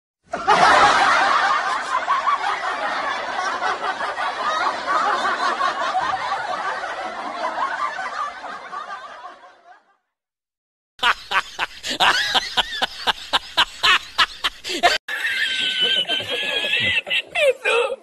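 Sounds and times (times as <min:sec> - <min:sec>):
audience laughter: 0:00.3 - 0:10.1, 0:11.0 - 0:18.0.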